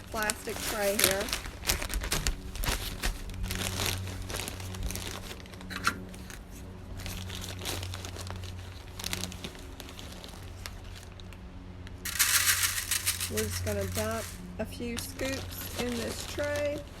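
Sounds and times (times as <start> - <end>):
plastic bag crinkling: 0.0 - 11.4, 12.0 - 17.0.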